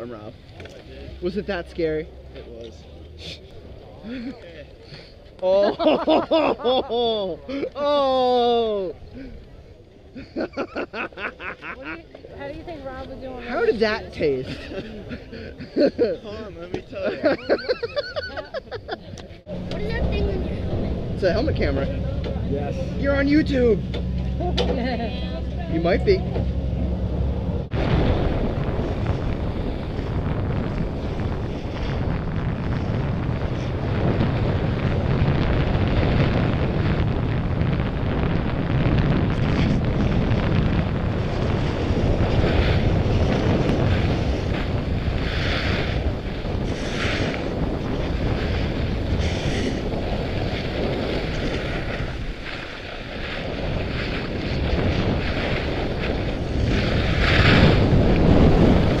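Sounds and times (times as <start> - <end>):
wind rushing over microphone: 5.4 - 59.0.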